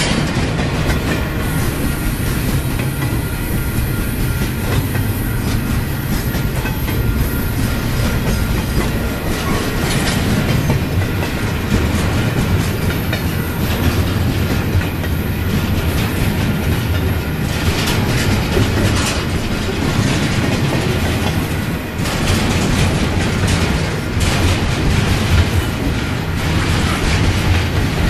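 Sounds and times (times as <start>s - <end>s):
train wheels rumbling on rail: 0.0s - 28.0s
wheel clacks: 0.0s - 28.0s.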